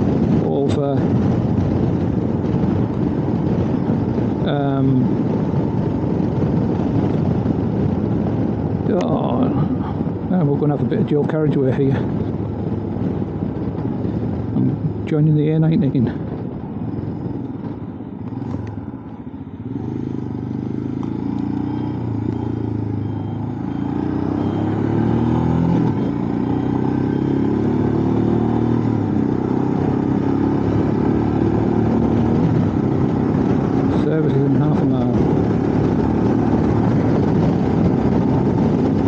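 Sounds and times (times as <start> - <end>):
motorcycle engine accelerating: 0.0 - 39.0
wind rushing over microphone: 0.0 - 39.0.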